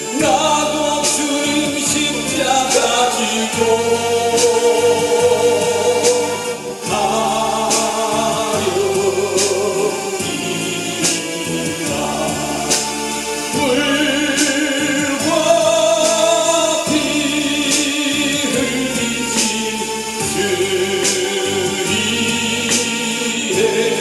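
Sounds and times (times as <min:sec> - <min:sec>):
cymbal accents: 0:00.0 - 0:24.0
electronic keyboard: 0:00.0 - 0:24.0
man singing a hymn into a microphone: 0:00.0 - 0:24.0.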